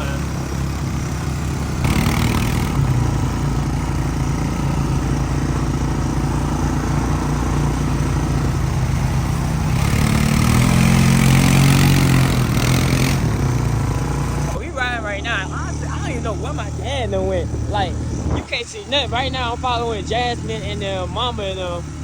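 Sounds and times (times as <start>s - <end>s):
atv engine running: 0.0s - 22.0s
noisy rush: 0.0s - 22.0s.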